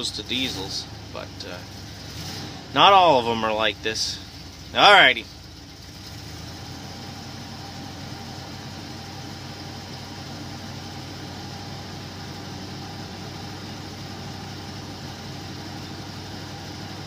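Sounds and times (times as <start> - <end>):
pickup truck engine idling: 0.0 - 17.0.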